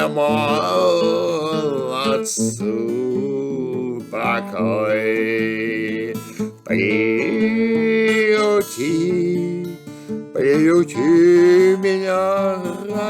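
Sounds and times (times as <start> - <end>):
guitar accompaniment: 0.0 - 13.0
person singing: 0.0 - 13.0.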